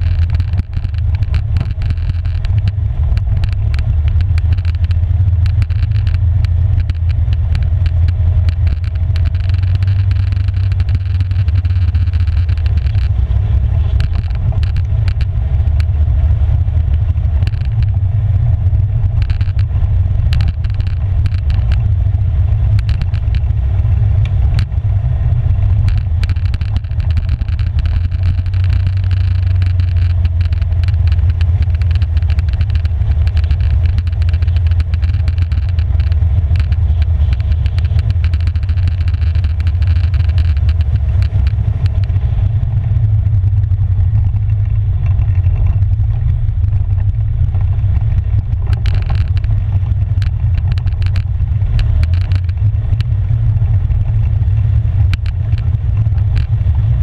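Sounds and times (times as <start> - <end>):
knocks and rattles: 0.0 - 16.0, 16.6 - 18.1, 18.7 - 24.8, 25.5 - 42.4, 43.6 - 54.4
quad bike engine rumbling: 0.0 - 57.0.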